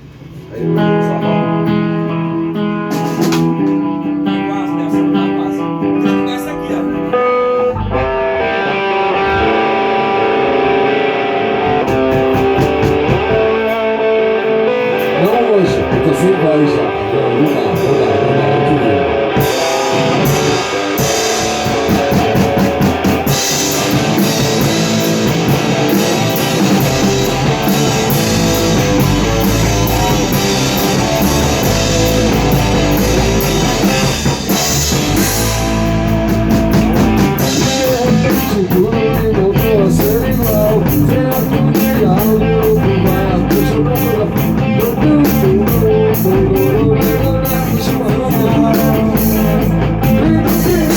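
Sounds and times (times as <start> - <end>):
rock band playing: 0.0 - 50.9.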